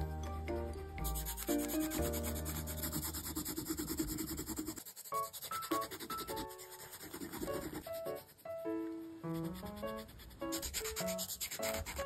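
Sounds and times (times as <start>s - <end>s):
background music: 0.0s - 3.6s, 5.2s - 12.0s
pen scribbling on paper: 1.0s - 12.0s.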